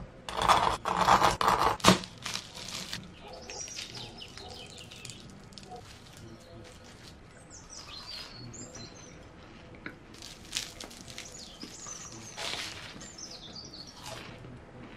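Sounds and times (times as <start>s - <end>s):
pastry crackling and crunching: 0.3s - 14.9s.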